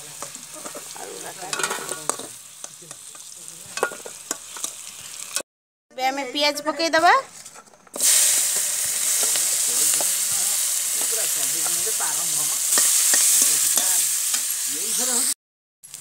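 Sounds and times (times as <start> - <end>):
onions sizzling in hot oil: 0.0 - 5.4, 7.3 - 16.0
metal spatula scraping a pan: 0.1 - 5.4, 7.2 - 15.0.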